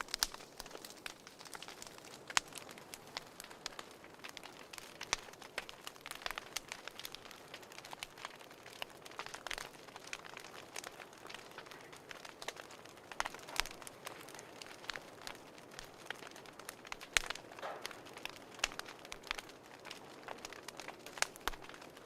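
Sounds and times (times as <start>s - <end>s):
soft fire hiss: 0.0s - 22.0s
wood fire crackling: 0.0s - 22.0s.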